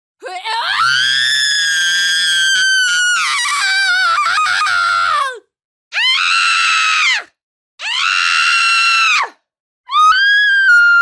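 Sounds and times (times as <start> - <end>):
woman screaming in terror: 0.3 - 5.3, 6.0 - 7.2, 7.8 - 11.0.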